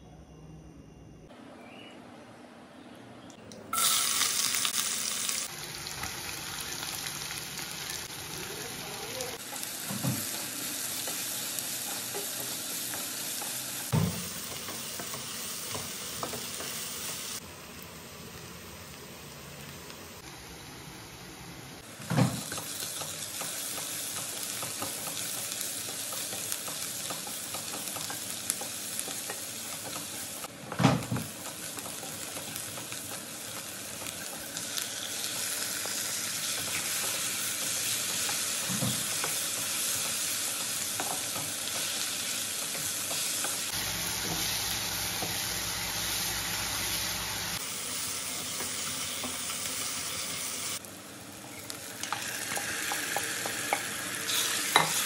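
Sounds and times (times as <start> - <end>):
onions sizzling in oil: 3.7 - 55.0.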